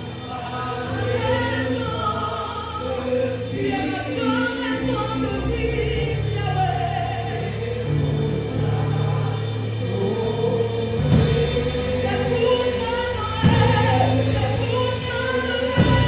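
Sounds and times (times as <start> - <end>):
low held accompaniment notes: 0.0 - 16.0
voices singing gospel song: 0.0 - 16.0.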